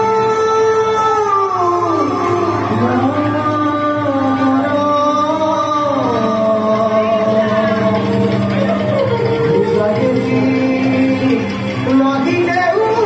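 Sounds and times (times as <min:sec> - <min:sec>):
steady low drone: 0:00.0 - 0:12.9
person singing devotional melody: 0:00.0 - 0:13.0.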